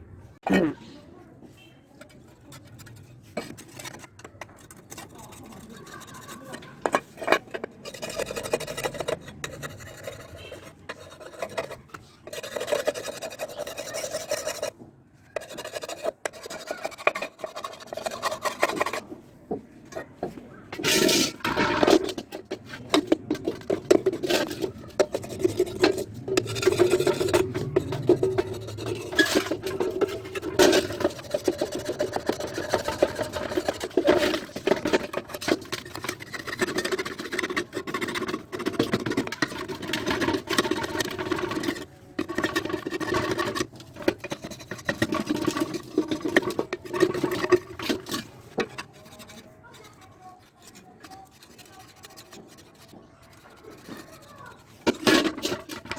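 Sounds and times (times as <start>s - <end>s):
hand rubbing on metal engine cover: 1.6s - 14.7s, 15.3s - 55.9s.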